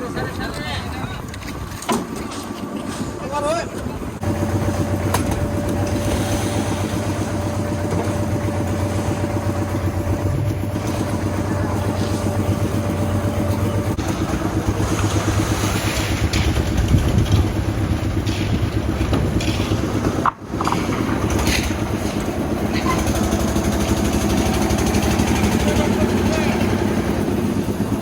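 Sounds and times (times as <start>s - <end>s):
high steady hum: 0.0s - 28.0s
machine engine running: 3.9s - 28.0s.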